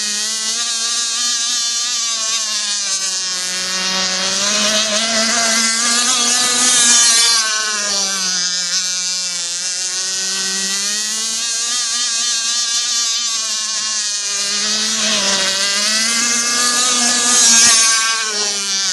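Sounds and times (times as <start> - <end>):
model boat engine racing: 0.0 - 18.9.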